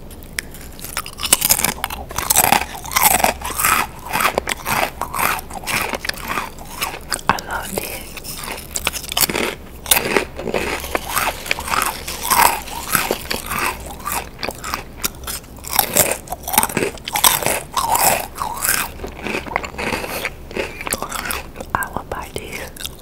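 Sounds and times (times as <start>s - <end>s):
chewing crunchy chips: 0.0s - 23.0s.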